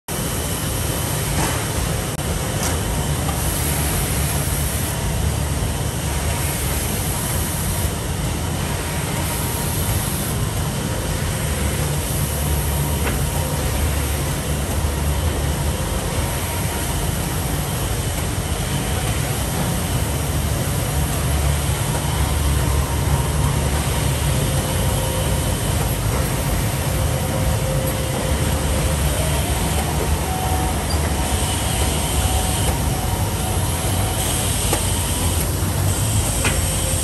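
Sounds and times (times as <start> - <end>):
machine rumble and clatter: 0.2 - 37.0.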